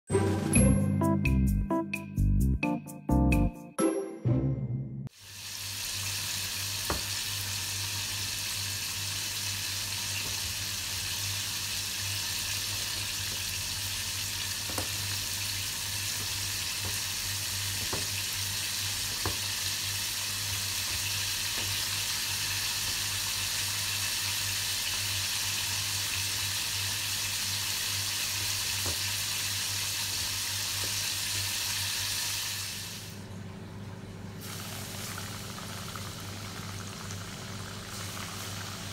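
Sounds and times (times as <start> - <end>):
hot oil sizzling in pan: 5.1 - 33.2, 34.4 - 38.9.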